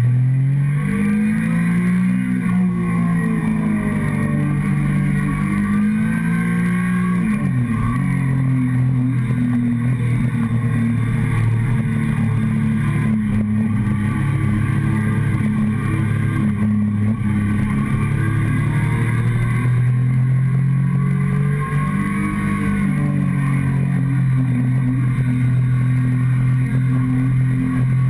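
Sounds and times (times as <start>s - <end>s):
motorcycle engine running: 2.3s - 28.0s.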